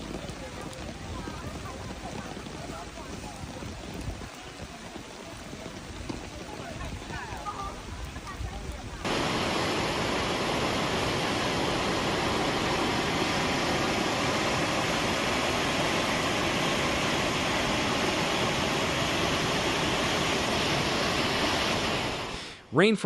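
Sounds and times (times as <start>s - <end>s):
rushing floodwater roar: 0.0s - 22.4s.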